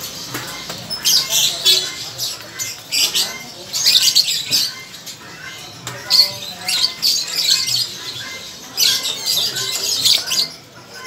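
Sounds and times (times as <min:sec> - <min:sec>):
caged birds squawking and chirping: 0:00.0 - 0:11.0.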